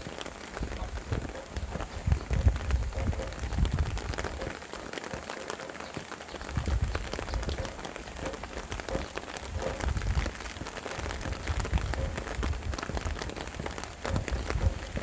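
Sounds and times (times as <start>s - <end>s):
steady rain: 0.0s - 15.0s
wind gusting: 0.6s - 4.5s, 6.5s - 15.0s.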